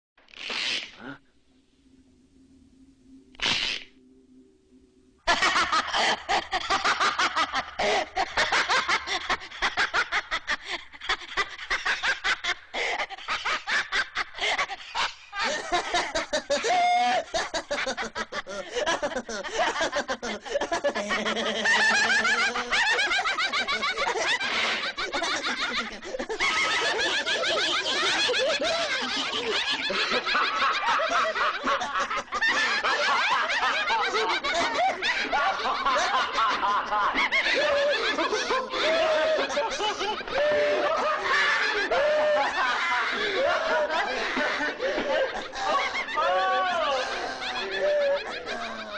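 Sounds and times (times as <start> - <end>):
voices laughing maniacally: 5.2 - 48.9.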